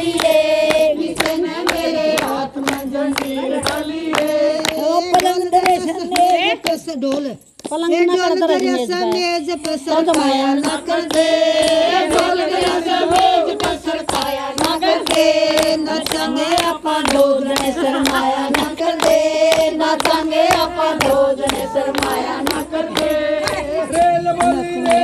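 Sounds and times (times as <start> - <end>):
women singing folk song: 0.0 - 6.9, 8.1 - 25.0
rhythmic hand-clapping: 0.0 - 25.0.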